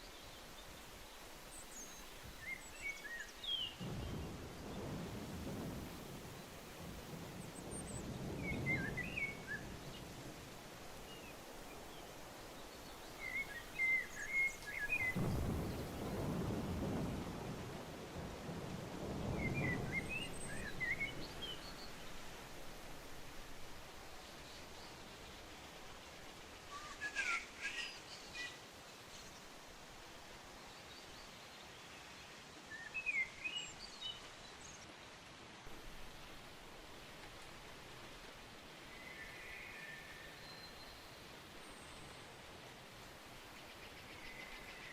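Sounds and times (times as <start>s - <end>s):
songbird singing: 0.0s - 10.3s, 10.9s - 17.5s, 19.1s - 29.6s, 30.5s - 35.0s, 38.8s - 42.6s, 43.4s - 44.9s
steady outdoor hiss: 0.0s - 44.9s.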